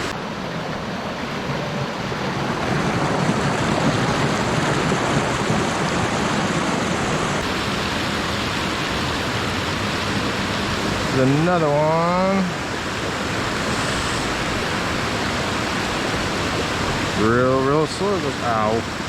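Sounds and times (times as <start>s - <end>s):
water rushing over spillway: 0.0s - 19.0s.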